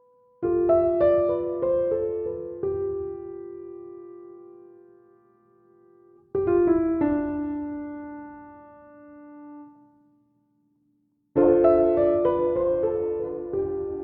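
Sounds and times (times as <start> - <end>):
slow piano chords: 0.0 - 10.1, 11.4 - 14.0.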